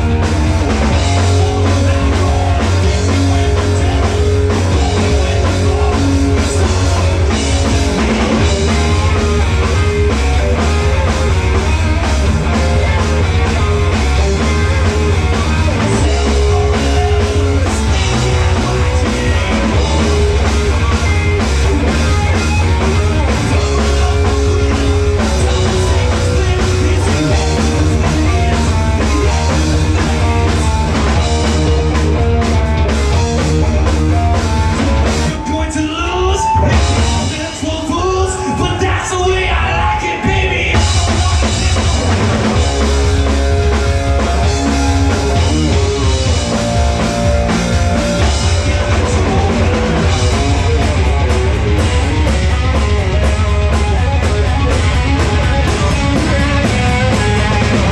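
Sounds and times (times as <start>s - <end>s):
live rock band playing: 0.0s - 57.9s.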